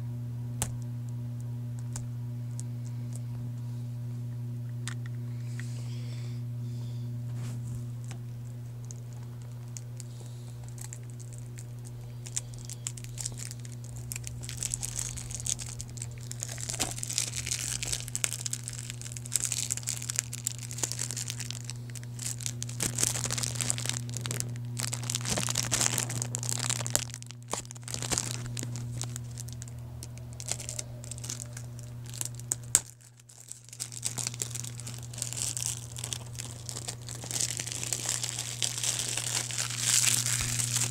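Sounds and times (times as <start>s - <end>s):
steady low hum: 0.0s - 40.9s
plastic wrap crinkling and tearing: 8.0s - 40.9s.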